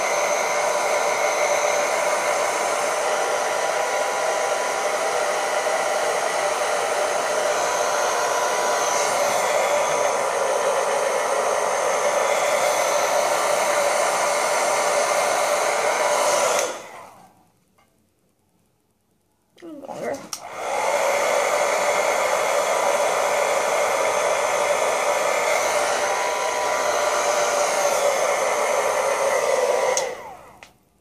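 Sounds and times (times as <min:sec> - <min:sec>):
hair dryer blowing: 0:00.0 - 0:17.4, 0:19.9 - 0:30.8.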